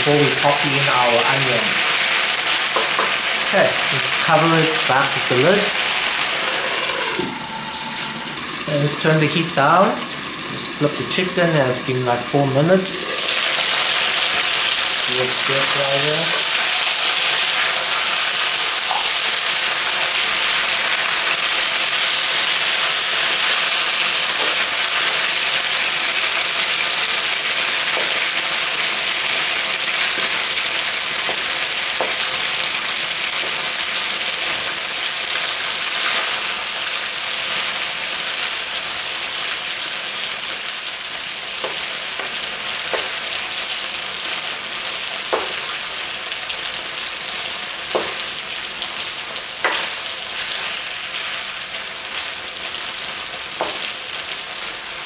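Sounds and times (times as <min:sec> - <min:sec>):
chicken sizzling in oil: 0:00.0 - 0:55.0.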